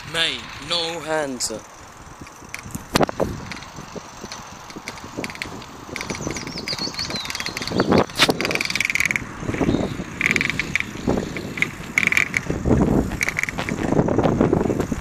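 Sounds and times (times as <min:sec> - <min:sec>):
bicycle freewheel ticking: 0:00.0 - 0:14.1
wind buffeting microphone: 0:00.0 - 0:15.0.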